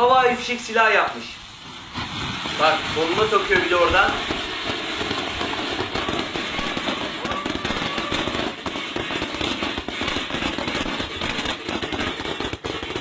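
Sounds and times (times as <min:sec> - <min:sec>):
firework gun rapid crackling pops: 0:01.6 - 0:13.0.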